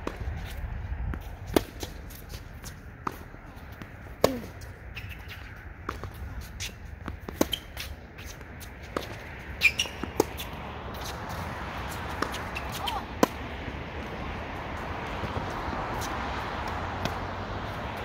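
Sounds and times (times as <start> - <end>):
balls bouncing on hard court: 0.0 - 14.2, 14.8 - 17.3
tennis balls struck by rackets: 0.0 - 14.2, 14.8 - 18.0.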